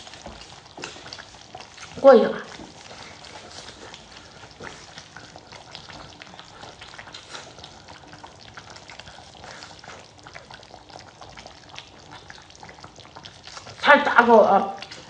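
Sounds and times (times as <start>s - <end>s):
wet chewing and lip smacking: 0.0s - 13.8s.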